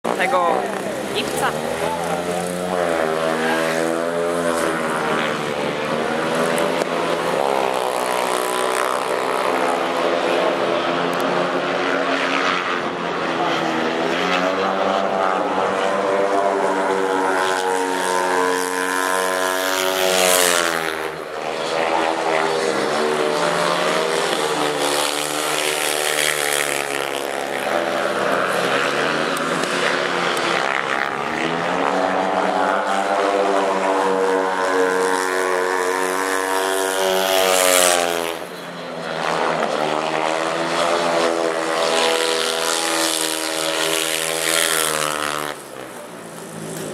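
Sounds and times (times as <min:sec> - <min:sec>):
motorcycle engine racing: 0:00.0 - 0:46.9.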